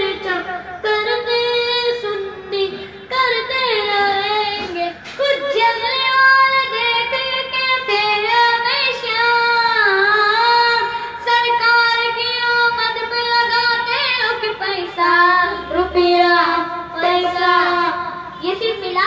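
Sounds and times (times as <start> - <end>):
boy singing devotional song: 0.0 - 19.0.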